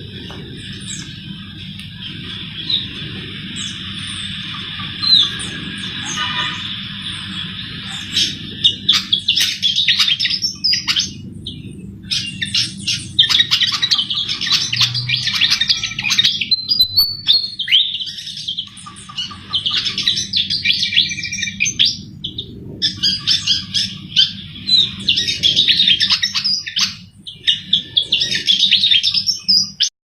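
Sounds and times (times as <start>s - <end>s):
bird twittering: 0.0s - 29.9s.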